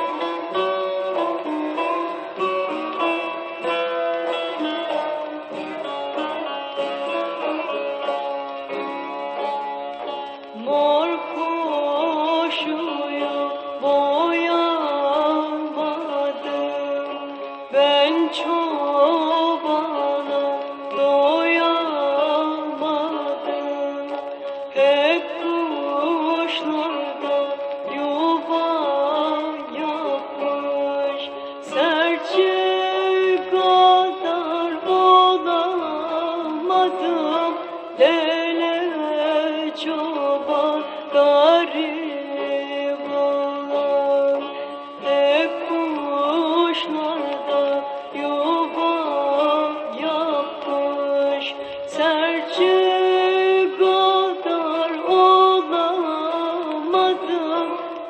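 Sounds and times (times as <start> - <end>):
folk song with ornamented melody: 0.0 - 58.0
instrumental backing: 0.0 - 58.0.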